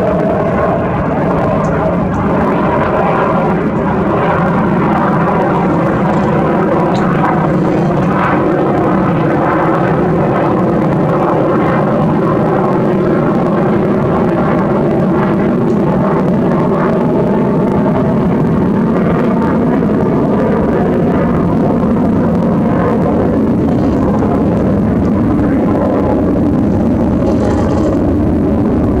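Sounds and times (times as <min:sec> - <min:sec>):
aircraft engines droning: 0:00.0 - 0:29.0.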